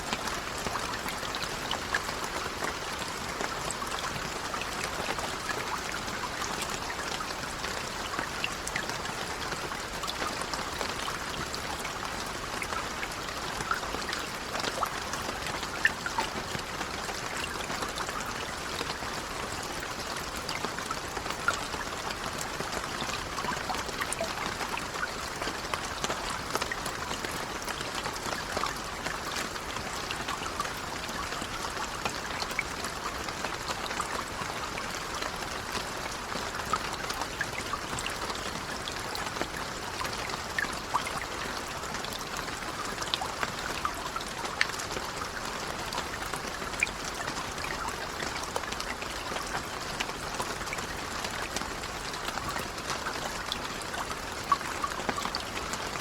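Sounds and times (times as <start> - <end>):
gentle rain pattering: 0.0 - 56.0.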